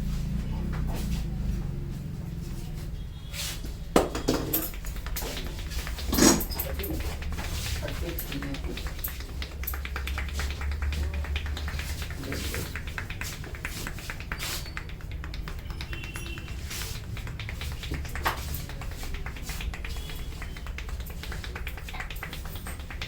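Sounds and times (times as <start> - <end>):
hands tapping and cracking on head: 3.9 - 23.0.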